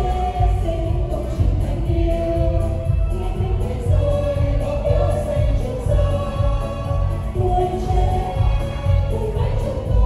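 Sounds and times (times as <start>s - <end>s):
amplified backing music with bass: 0.0s - 10.0s
group singing in unison: 0.0s - 10.0s.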